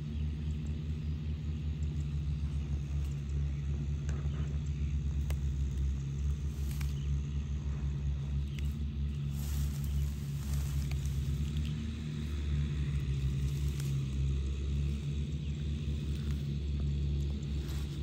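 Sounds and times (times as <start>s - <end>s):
low pulsing rumble: 0.0s - 18.0s.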